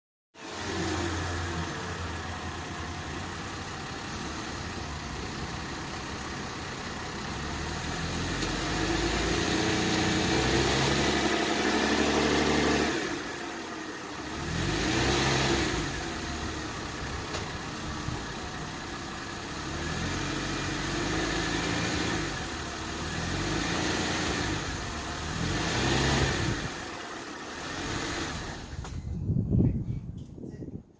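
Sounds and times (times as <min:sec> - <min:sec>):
car engine idling and revving: 0:00.4 - 0:29.1.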